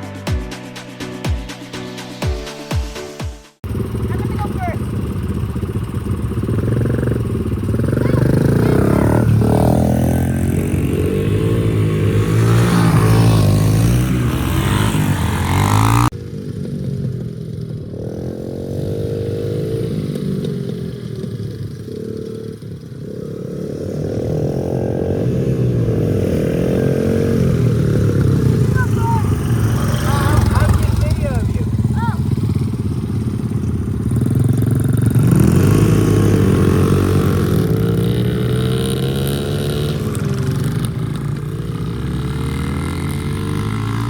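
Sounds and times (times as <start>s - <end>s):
dirt bike engine revving: 3.6s - 44.0s.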